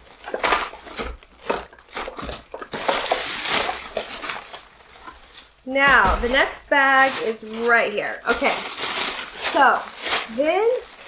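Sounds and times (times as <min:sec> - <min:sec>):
shopping bag crinkling: 0:00.0 - 0:11.0.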